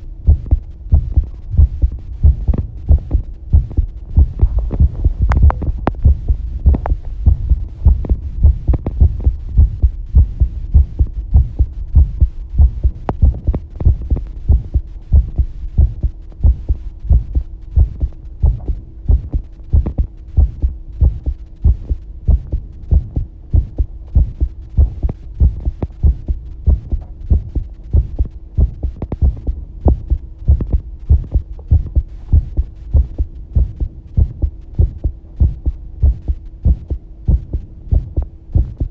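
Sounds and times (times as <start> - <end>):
faint steady hum: 0.0 - 38.9
heartbeat thumps: 0.0 - 38.9.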